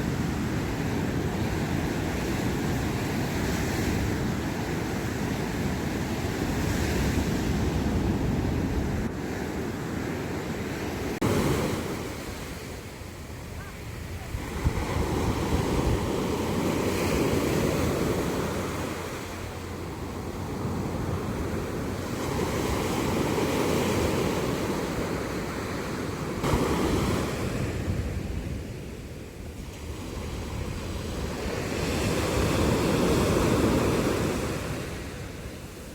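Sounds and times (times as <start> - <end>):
sea waves breaking on shore: 0.0 - 35.9
wind on microphone: 0.0 - 35.9.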